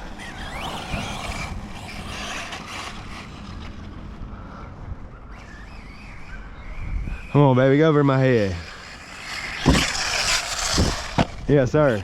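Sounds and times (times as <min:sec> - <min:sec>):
electric motor whine: 0:00.0 - 0:04.3, 0:05.0 - 0:12.0
steady rushing noise: 0:00.0 - 0:12.0.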